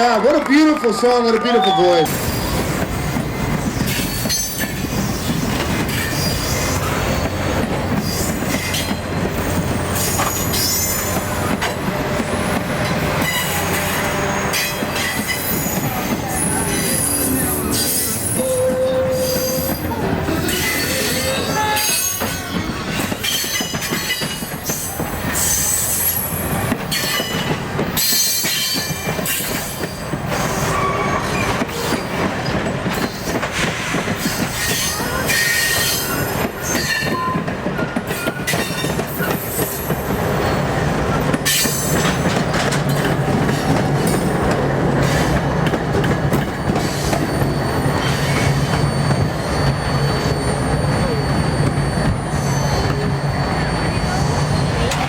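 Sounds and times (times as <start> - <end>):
train wheels squealing on rails: 0.0 - 55.0
clickety-clack over rail joints: 2.0 - 17.1, 17.7 - 52.2.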